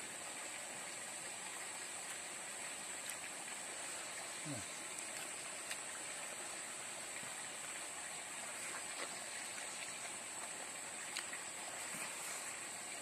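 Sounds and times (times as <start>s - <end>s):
rushing water-like noise: 0.0s - 13.0s.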